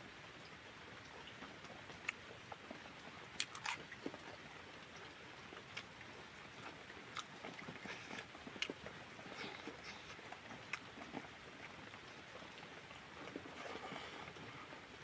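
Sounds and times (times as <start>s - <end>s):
chewing food: 1.0s - 14.8s.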